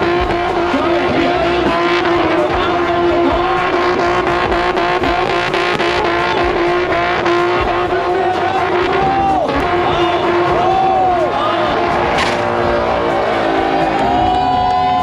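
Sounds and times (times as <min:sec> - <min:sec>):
car engine revving high: 0:00.0 - 0:15.0
tires squealing: 0:00.0 - 0:15.0.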